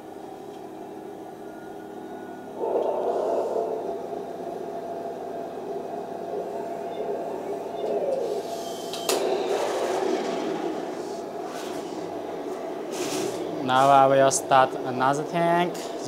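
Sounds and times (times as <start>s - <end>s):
simulated engine idle hum: 0.0s - 16.0s.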